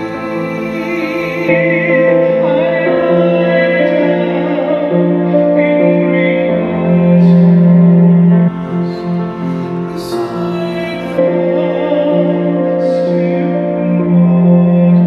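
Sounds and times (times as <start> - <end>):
grand piano: 0.0 - 15.0
person singing: 0.0 - 15.0.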